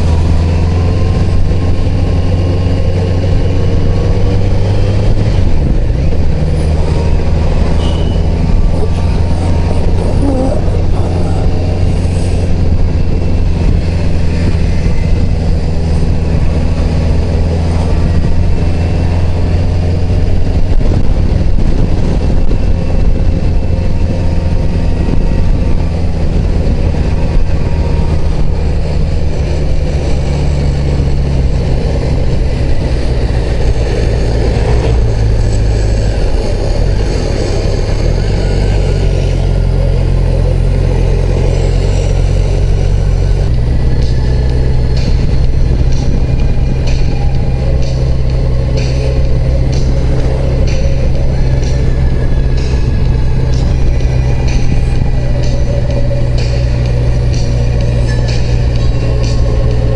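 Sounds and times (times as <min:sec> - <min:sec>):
motorcycle engine running: 0:00.0 - 0:59.9
road noise: 0:00.0 - 0:59.9
wind noise: 0:00.0 - 0:59.9.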